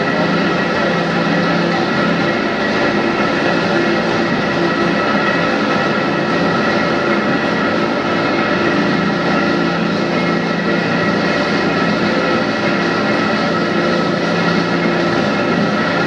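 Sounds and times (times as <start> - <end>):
bridge lift machinery drone: 0.0 - 16.0
constant whining tones: 0.0 - 16.0.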